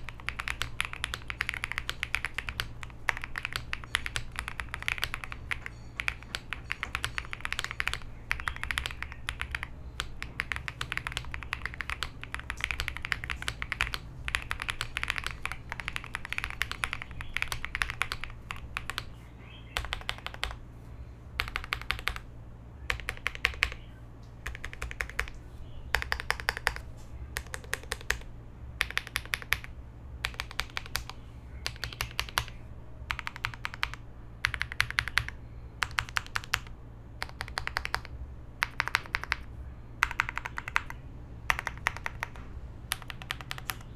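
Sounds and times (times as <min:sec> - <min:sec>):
typing on mechanical keyboard: 0:00.0 - 0:19.2, 0:19.8 - 0:20.6, 0:21.4 - 0:43.9.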